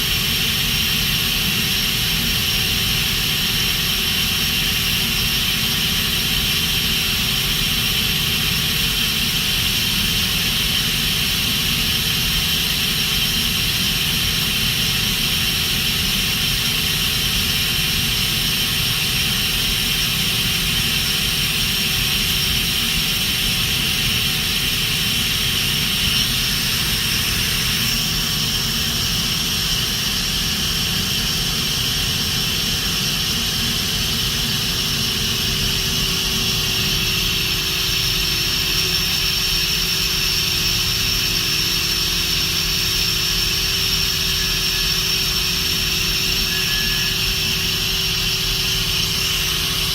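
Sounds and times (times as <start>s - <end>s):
machine whirring with high whine: 0.0s - 49.9s.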